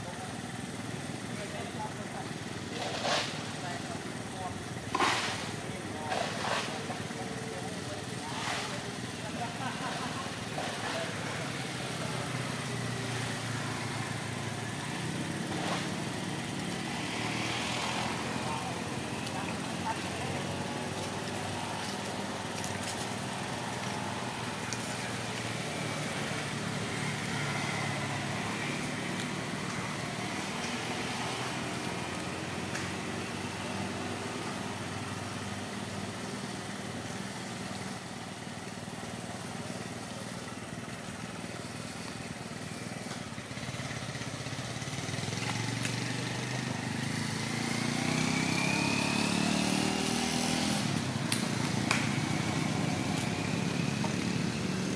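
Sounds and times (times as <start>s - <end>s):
motor engine running: 0.0s - 54.9s.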